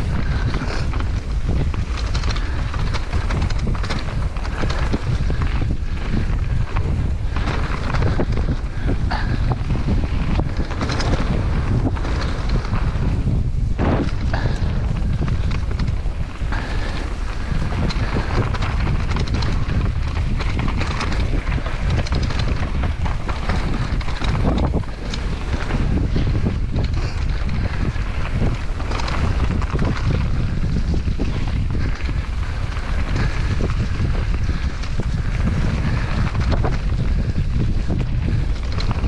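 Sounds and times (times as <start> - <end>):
bike rattling and knocking: 0.0 - 39.0
tyres rolling on dirt and leaves: 0.0 - 39.0
wind buffeting microphone: 0.0 - 39.0.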